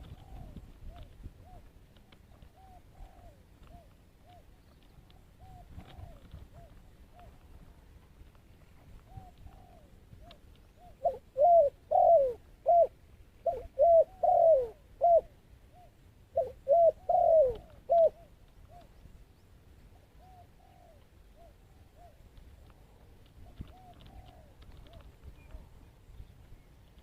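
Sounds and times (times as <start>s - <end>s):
dove cooing: 0.0s - 7.5s, 8.9s - 19.0s, 19.9s - 22.2s, 23.4s - 25.8s.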